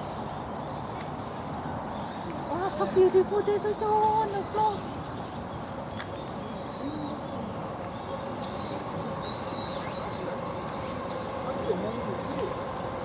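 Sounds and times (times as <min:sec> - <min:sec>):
birds chirping: 0:00.0 - 0:13.0
murmur of distant voices: 0:00.0 - 0:13.0.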